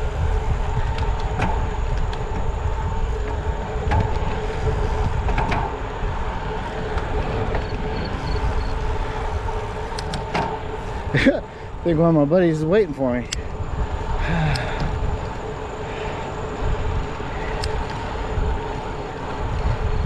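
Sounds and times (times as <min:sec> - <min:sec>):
steady hum: 0:00.0 - 0:20.0
wind rumbling on microphone: 0:00.0 - 0:20.0.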